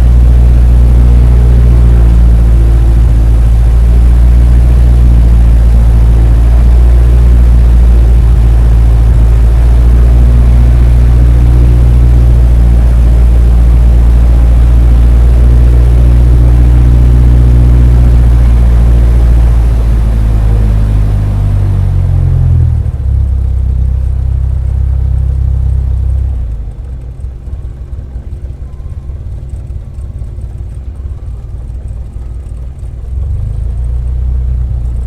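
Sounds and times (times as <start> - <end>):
heavy engine droning: 0.0 - 35.0.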